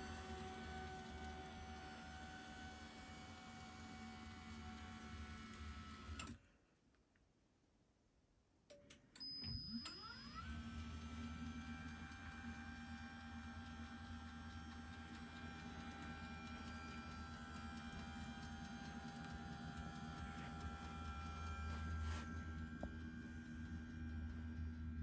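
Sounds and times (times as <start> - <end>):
electric lift motor humming: 0.0 - 6.4, 9.2 - 25.0.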